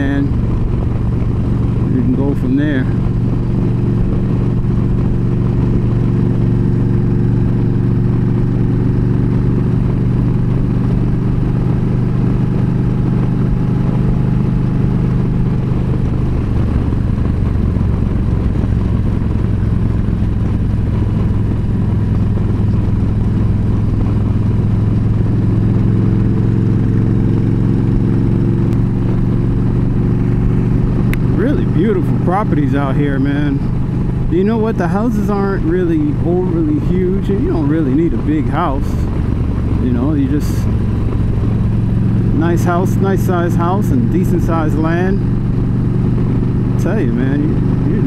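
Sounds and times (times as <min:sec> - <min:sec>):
motorcycle engine cruising: 0:00.0 - 0:48.0.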